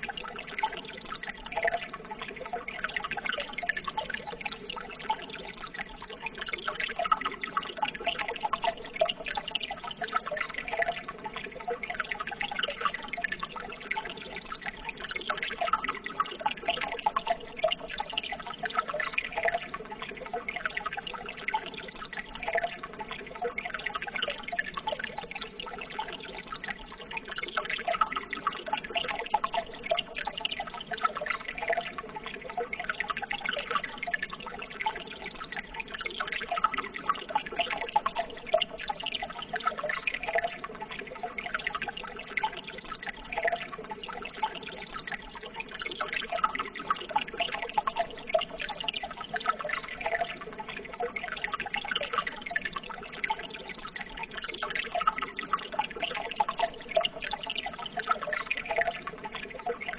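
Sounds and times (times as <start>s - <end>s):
running water trickling and splashing: 0.0s - 59.9s.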